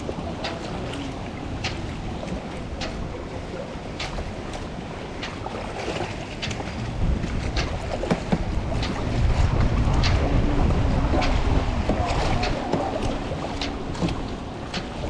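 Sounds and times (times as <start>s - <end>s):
water lapping around boat: 0.0s - 15.0s
wind buffeting microphone: 0.0s - 15.0s.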